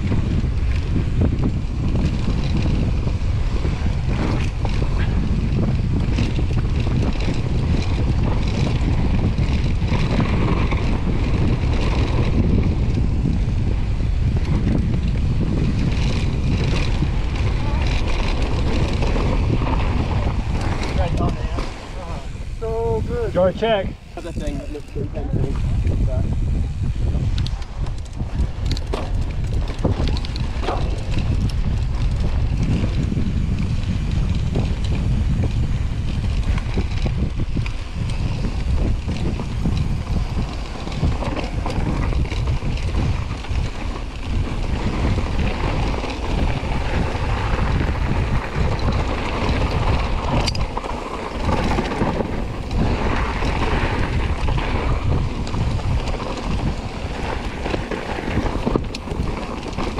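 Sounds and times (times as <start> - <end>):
bike clicks and rattles: 0.0 - 59.9
bike tyre noise: 0.0 - 59.9
wind rumbling on microphone: 0.0 - 59.9.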